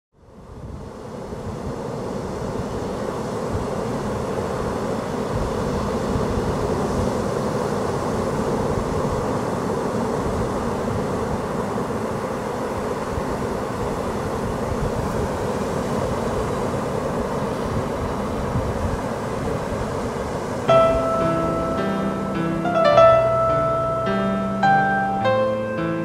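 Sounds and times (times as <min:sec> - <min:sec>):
wind: 0:00.1 - 0:26.0
sea surf rushing: 0:00.2 - 0:26.0.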